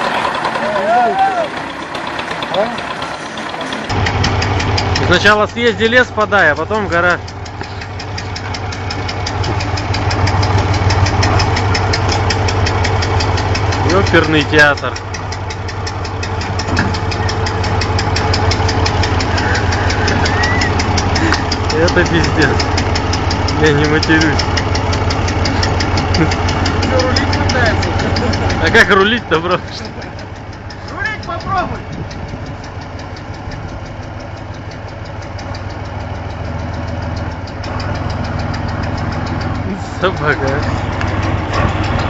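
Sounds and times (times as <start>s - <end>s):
heavy vehicle engine running: 0.0s - 42.0s
rapid engine knocking: 0.0s - 42.0s.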